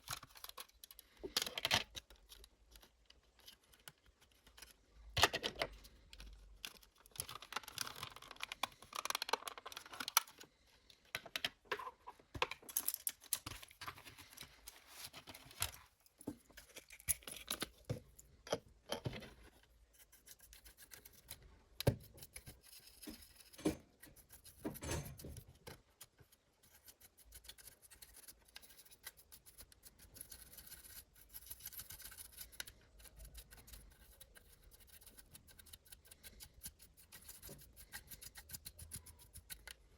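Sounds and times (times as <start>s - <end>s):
small parts and tools clicking: 0.0s - 11.8s, 12.4s - 39.9s.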